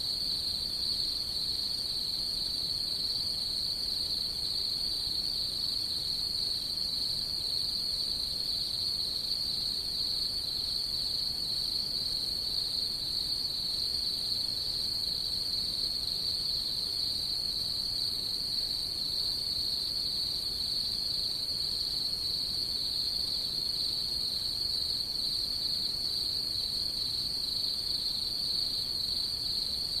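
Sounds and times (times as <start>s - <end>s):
night insects trilling: 0.0s - 30.0s.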